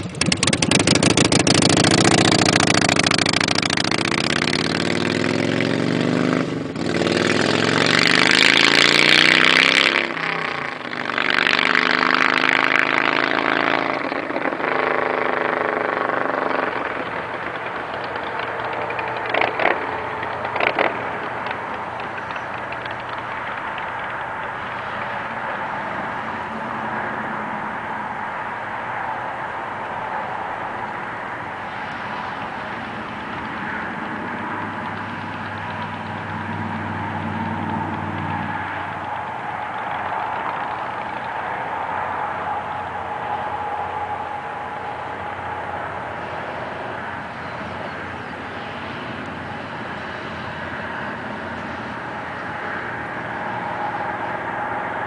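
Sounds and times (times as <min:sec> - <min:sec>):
motorcycle accelerating: 0:00.0 - 0:55.0.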